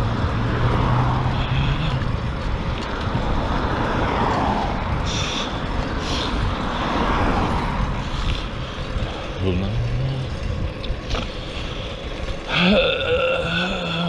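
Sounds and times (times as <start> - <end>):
wind rushing over microphone: 0.0 - 12.6
road and traffic noise: 0.0 - 14.0.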